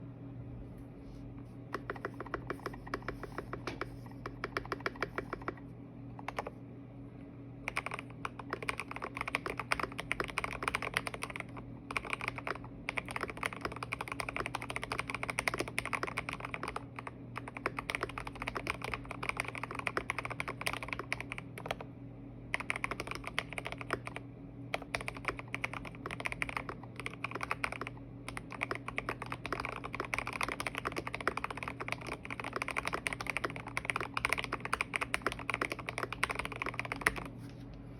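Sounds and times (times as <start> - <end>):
steady low hum: 0.0 - 37.9
fast typing on mechanical keyboard: 1.8 - 5.6, 6.2 - 6.5, 7.6 - 21.9, 22.5 - 37.3.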